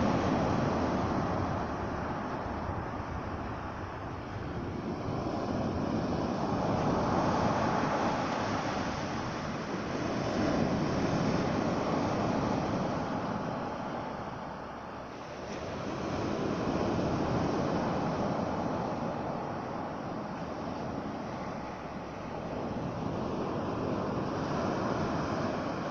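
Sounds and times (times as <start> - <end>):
sea surf washing on shore: 0.0 - 25.9.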